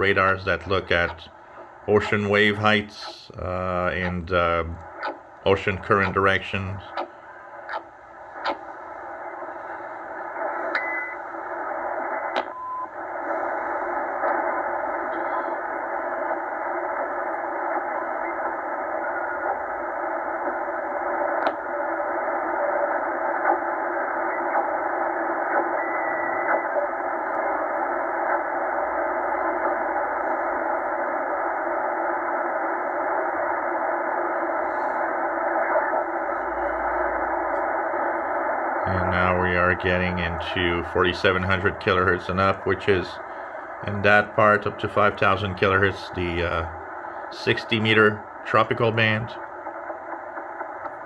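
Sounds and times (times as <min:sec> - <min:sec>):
radio static hiss: 0:00.0 - 0:51.0.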